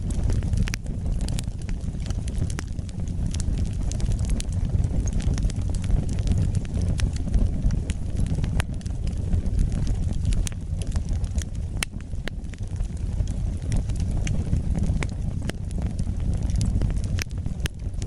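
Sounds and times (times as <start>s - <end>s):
low rumble of flames: 0.0s - 18.0s
wood fire crackles and pops: 0.0s - 18.0s.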